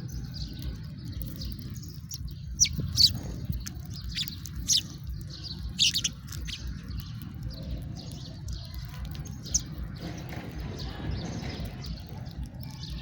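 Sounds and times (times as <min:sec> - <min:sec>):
sparrows chirping: 0:00.0 - 0:13.0
steady low rumble: 0:00.0 - 0:13.0.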